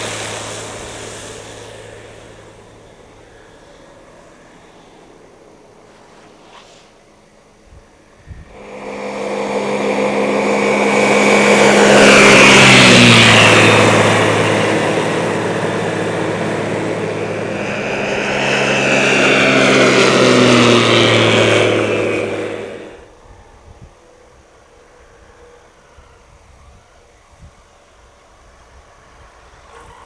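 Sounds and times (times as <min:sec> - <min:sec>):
light aircraft flying overhead: 0:00.0 - 0:30.0.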